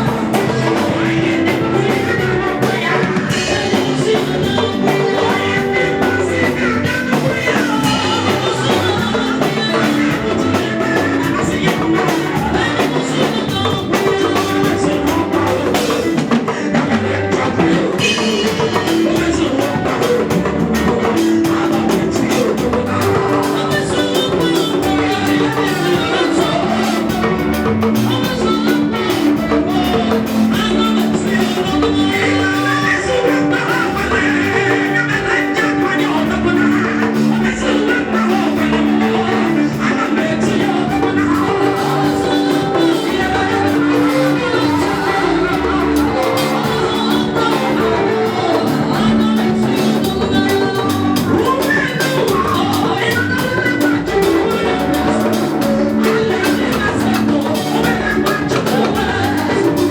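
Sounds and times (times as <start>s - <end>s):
drum kit: 0.0s - 59.9s
people singing: 0.0s - 59.9s
worship band playing: 0.0s - 59.9s.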